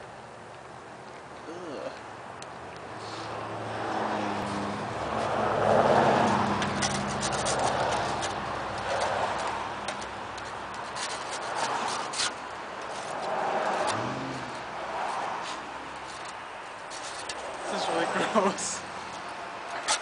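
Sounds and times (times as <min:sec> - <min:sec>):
engine hum: 0:00.0 - 0:20.0
passing road traffic: 0:00.0 - 0:20.0.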